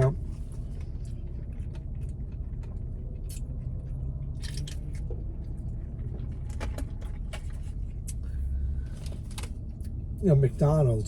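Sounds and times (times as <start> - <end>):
low steady hum: 0.0 - 11.0
chewing and crunching: 0.2 - 10.1.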